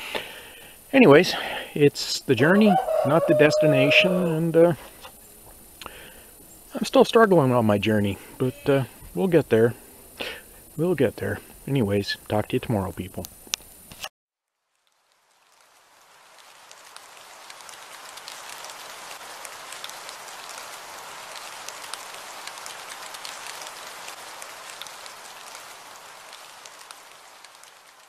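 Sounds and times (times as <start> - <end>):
steady rain pattering: 0.0 - 28.0.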